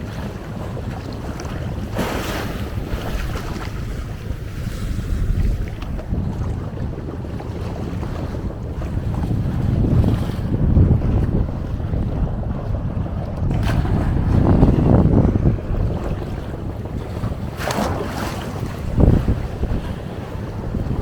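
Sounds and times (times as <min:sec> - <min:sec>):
sea waves on shore: 0:00.0 - 0:21.0
wind buffeting microphone: 0:00.0 - 0:21.0.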